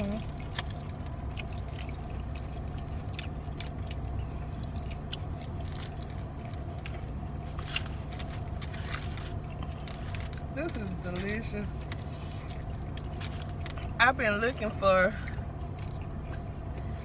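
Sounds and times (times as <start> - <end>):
chewing and crunching food: 0.0 - 17.0
low engine hum: 0.0 - 17.0.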